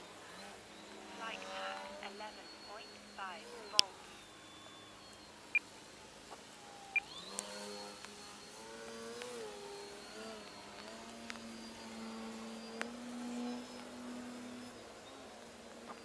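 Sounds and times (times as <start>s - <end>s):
model plane motor drone: 0.0s - 16.0s.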